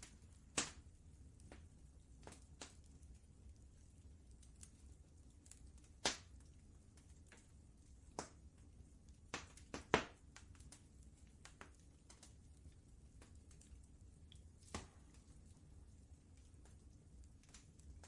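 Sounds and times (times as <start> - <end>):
low steady rumble: 0.0 - 18.0
wood fire crackling: 0.0 - 18.0.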